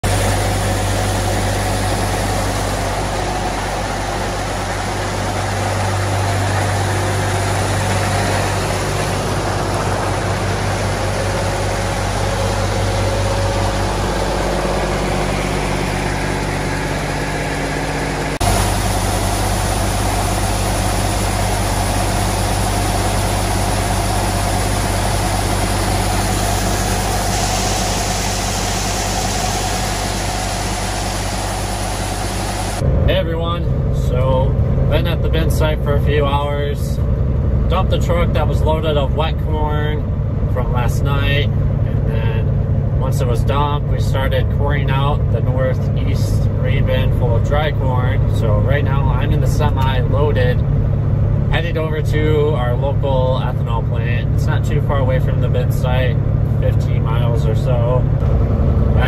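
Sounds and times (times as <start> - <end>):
vehicle engine running steadily: 0.0 - 59.0.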